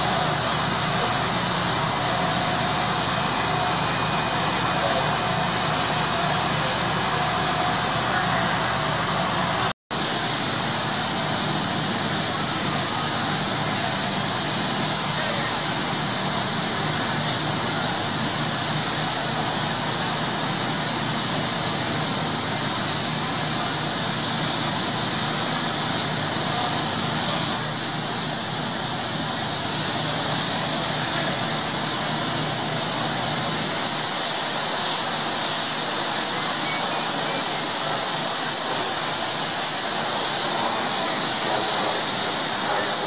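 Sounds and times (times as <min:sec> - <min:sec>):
fire truck pump engines: 0:00.0 - 0:43.0
water spraying: 0:00.0 - 0:43.0.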